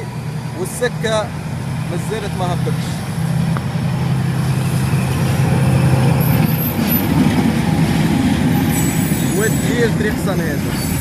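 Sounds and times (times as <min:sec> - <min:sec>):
loud low train drone: 0:00.0 - 0:11.0
rumble of train cars passing: 0:00.0 - 0:11.0.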